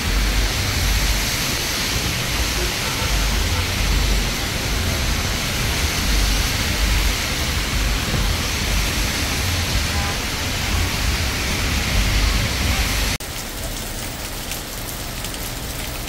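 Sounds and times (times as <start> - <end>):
low rumble: 0.0 - 13.2
falling rain hiss: 0.0 - 16.0.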